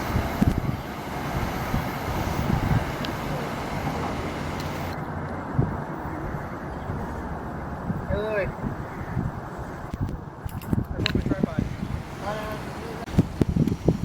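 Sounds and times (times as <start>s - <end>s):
passing train rumble: 0.0s - 10.4s, 11.0s - 14.0s.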